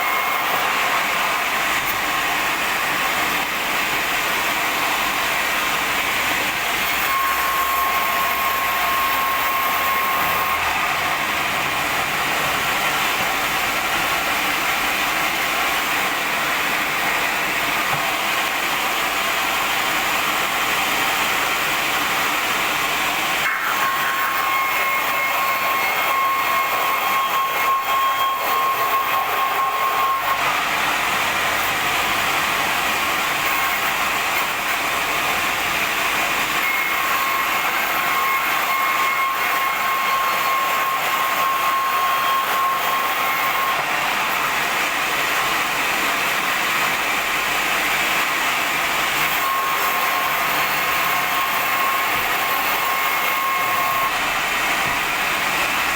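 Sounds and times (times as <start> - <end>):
band saw cutting wooden boards: 0.0 - 55.9
high-pitched saw whine: 0.0 - 55.9.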